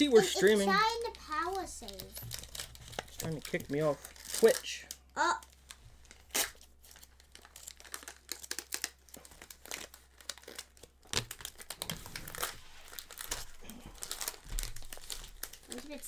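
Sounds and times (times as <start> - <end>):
foil wrapper crinkling: 0.0 - 16.0.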